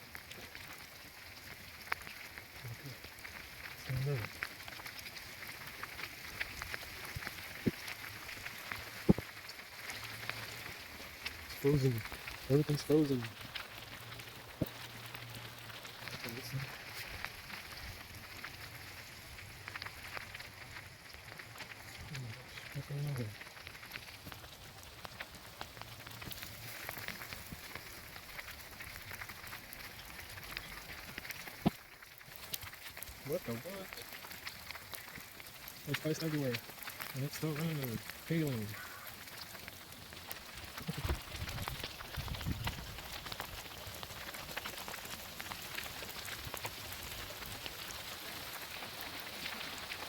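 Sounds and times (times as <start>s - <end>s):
hail and rain falling: 0.0s - 50.0s.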